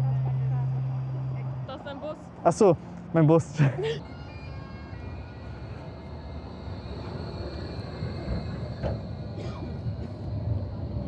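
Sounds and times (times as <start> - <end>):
high-pitched whine: 0.0 - 11.0
street noise: 0.0 - 11.0
tram low hum: 0.0 - 11.0.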